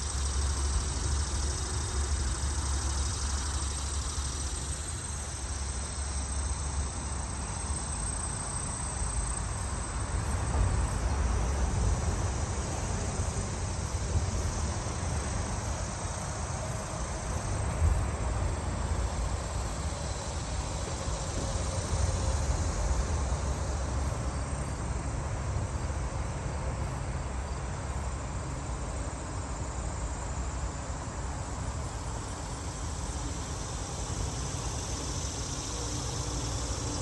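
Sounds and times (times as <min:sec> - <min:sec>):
constant low rumble: 0:00.0 - 0:37.0
insects chirring: 0:00.0 - 0:37.0.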